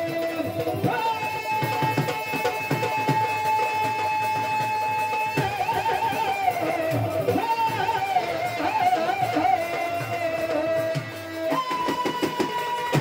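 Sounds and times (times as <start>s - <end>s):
hand drum beats: 0.0s - 13.0s.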